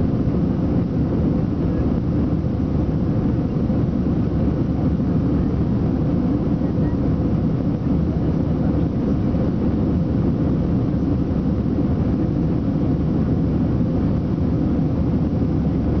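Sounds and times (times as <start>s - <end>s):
airflow over fuselage: 0.0s - 16.0s
faint steady hum: 0.0s - 16.0s
jet engines rumbling: 0.0s - 16.0s.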